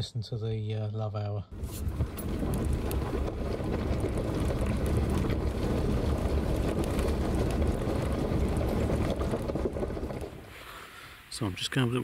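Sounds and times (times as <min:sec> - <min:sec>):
engine and tyre rumble: 0:01.5 - 0:11.3.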